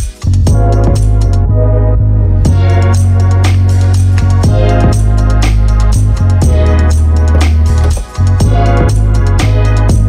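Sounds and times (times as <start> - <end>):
steady drum beat: 0.0 - 1.2, 2.5 - 10.0
keyboard chords: 0.0 - 10.0
deep sustained bass: 0.4 - 10.0.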